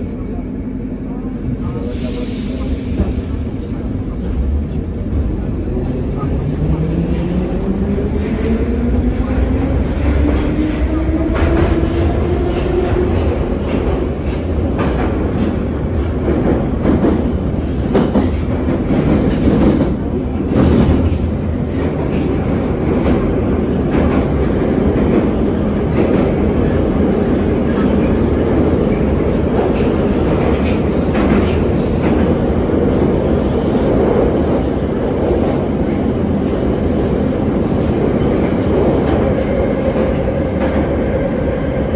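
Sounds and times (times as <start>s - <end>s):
train running rumble: 0.0s - 41.9s.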